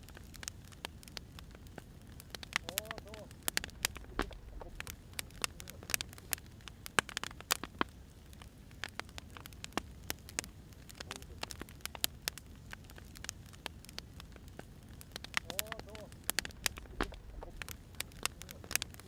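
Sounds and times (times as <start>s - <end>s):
low steady hiss: 0.0s - 19.0s
wood fire crackling: 0.0s - 19.0s.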